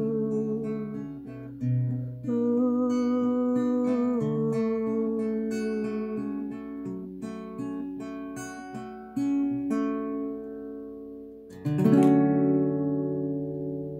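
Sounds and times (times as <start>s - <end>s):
fingerstyle acoustic guitar: 0.0s - 13.9s.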